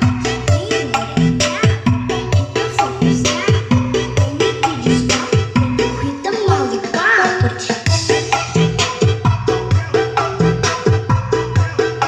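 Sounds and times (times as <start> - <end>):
dance music with kick drum: 0.0 - 12.0.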